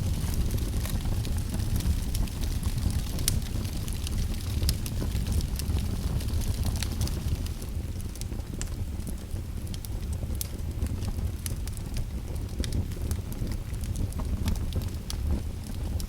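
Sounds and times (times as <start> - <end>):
low rumble of flames: 0.0 - 16.0
wood fire crackling: 0.0 - 16.0.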